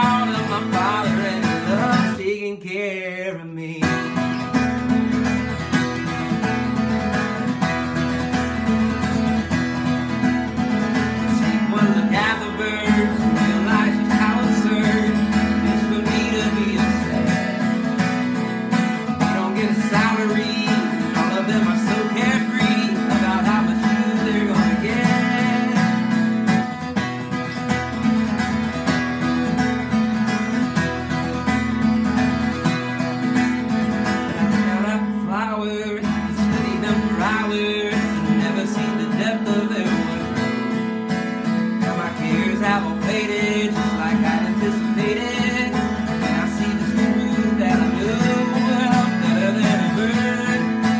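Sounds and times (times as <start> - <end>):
acoustic guitar picking and strumming: 0.0 - 50.9.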